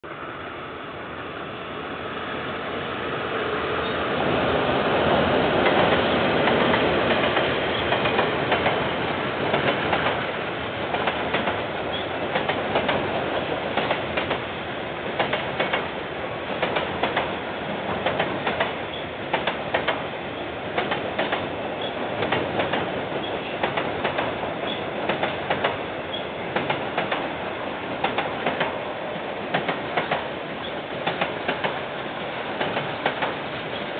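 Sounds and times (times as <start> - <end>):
train rumble: 0.0 - 33.9
wheels clacking over rail joints: 5.1 - 20.1, 20.7 - 27.4, 28.0 - 33.9.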